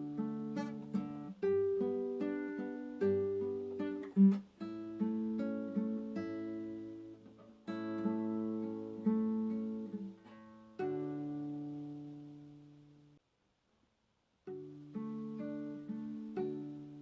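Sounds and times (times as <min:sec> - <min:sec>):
acoustic guitar playing gentle music: 0:00.0 - 0:13.2, 0:14.4 - 0:17.0.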